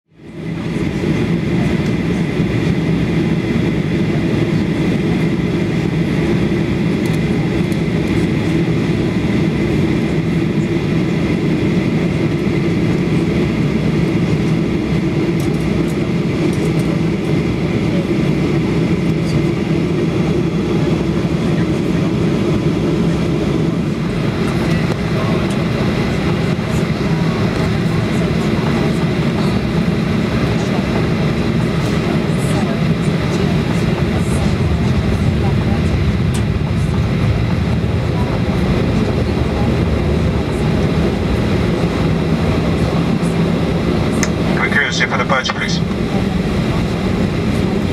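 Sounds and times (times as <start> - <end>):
high engine whine: 0.1 - 47.9
jet engines rumbling: 0.1 - 47.9.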